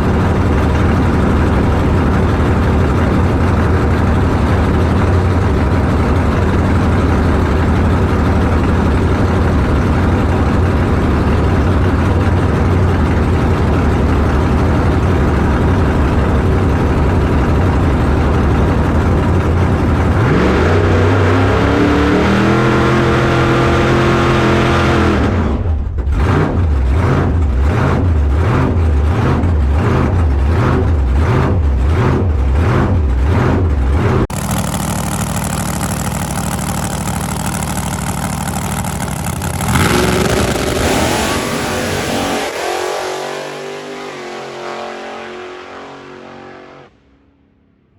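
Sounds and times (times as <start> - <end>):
drag car engine revving: 0.0 - 47.0.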